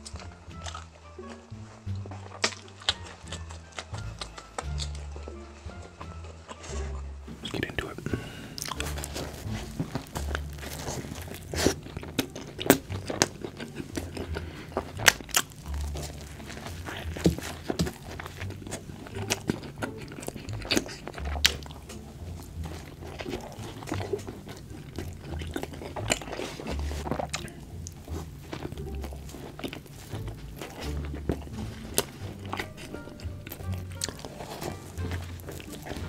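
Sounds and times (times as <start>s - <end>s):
crunchy bites and wet chewing: 0.0s - 36.0s.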